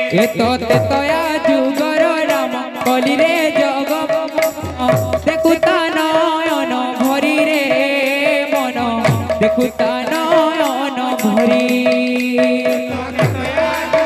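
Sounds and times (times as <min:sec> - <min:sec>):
hand drums playing: 0:00.0 - 0:14.0
person singing: 0:00.0 - 0:14.0.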